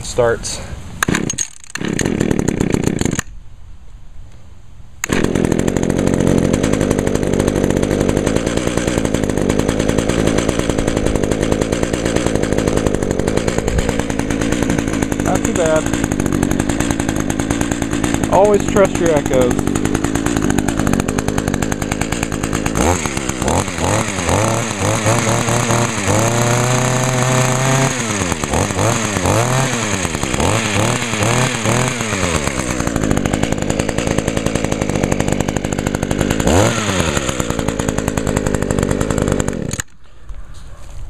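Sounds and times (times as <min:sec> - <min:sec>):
hedge trimmer engine revving: 0:00.4 - 0:03.3, 0:05.0 - 0:40.0.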